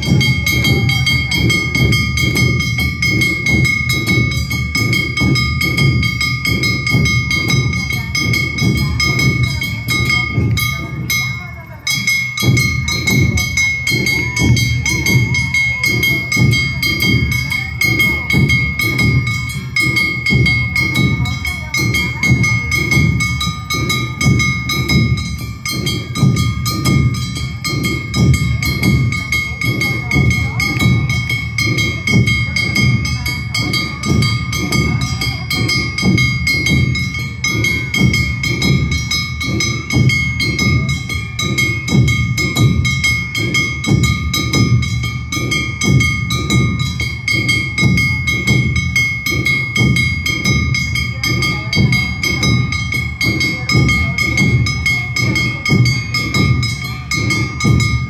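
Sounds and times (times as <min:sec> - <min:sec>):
high ringing tones: 0:00.0 - 0:58.0
taiko drums struck with sticks: 0:00.0 - 0:58.0.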